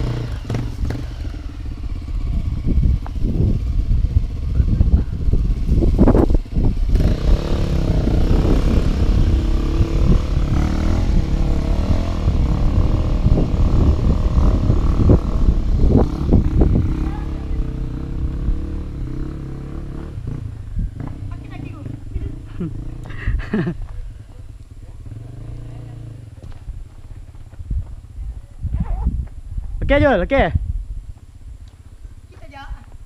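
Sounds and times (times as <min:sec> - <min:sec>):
motorcycle engine revving: 0:00.0 - 0:28.7.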